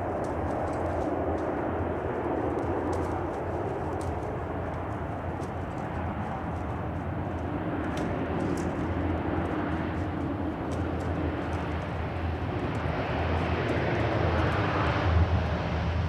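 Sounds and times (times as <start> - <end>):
turboprop engine drone: 0.0 - 16.0.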